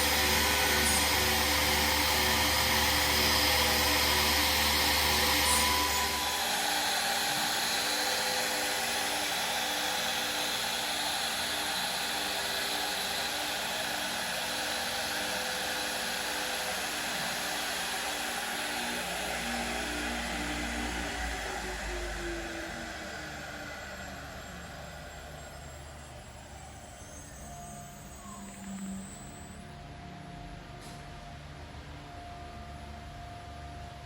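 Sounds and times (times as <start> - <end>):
router spindle high-pitched whine: 0.0 - 34.0.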